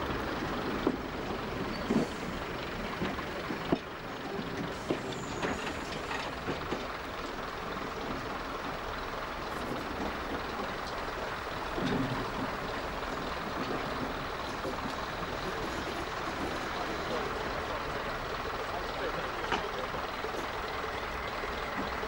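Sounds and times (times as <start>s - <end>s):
train engine running: 0.0s - 22.0s.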